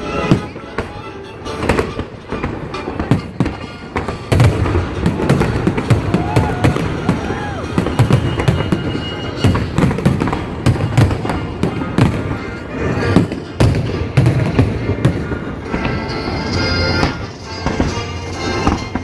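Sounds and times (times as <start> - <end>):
fireworks bangs and booms: 0.0 - 19.0
fireworks crackle: 0.0 - 19.0
music: 0.0 - 19.0.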